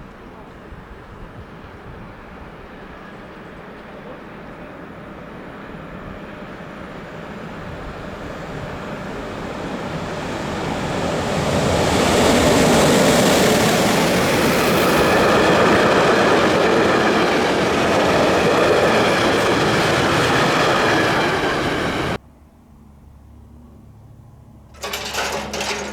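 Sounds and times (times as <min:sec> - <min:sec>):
freight train passing: 0:00.0 - 0:22.2.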